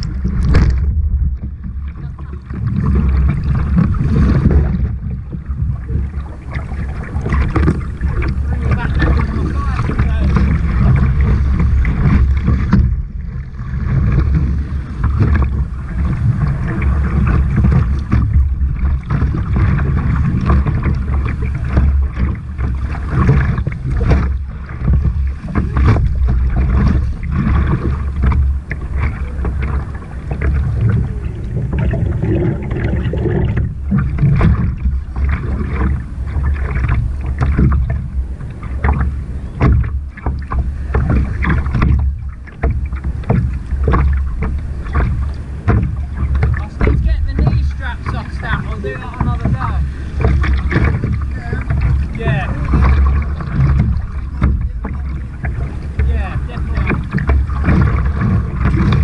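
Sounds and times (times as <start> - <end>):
sea water splashing around kayak: 0.0 - 59.0
wind buffeting microphone: 0.0 - 59.0.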